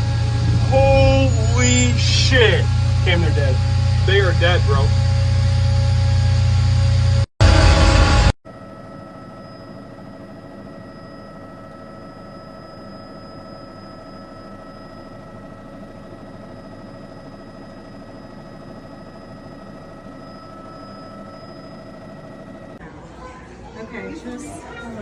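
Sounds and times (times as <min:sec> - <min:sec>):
high whining tones: 0:00.0 - 0:23.2
machine hum: 0:00.0 - 0:25.0.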